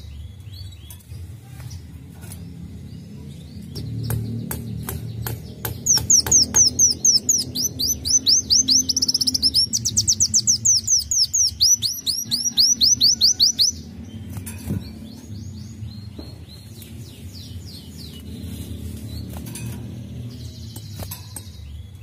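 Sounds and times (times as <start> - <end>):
bird chirping song: 0.0 - 22.0.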